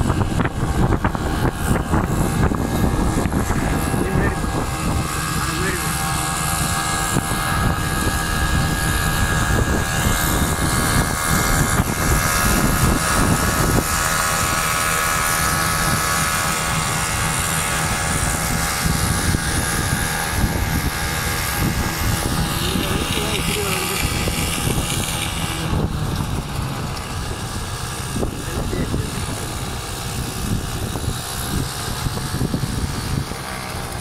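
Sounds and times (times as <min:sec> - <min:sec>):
small motorcycle engines running: 0:00.0 - 0:34.0
wind rumble on microphone: 0:00.0 - 0:34.0.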